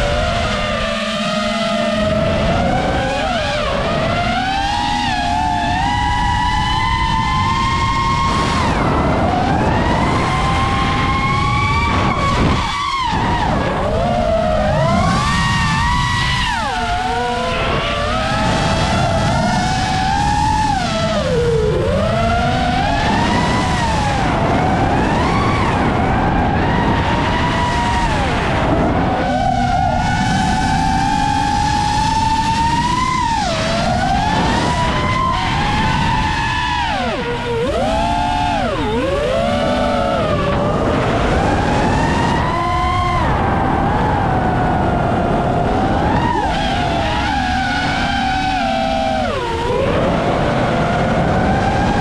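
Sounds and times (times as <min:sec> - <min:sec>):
quadcopter motors whining: 0:00.0 - 0:52.0
wind noise: 0:00.0 - 0:52.0.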